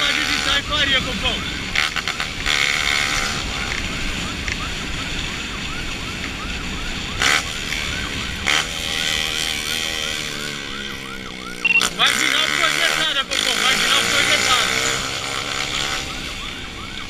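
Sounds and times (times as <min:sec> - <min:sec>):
low road noise rumble: 0:00.0 - 0:17.0
police siren yelping: 0:00.0 - 0:17.0.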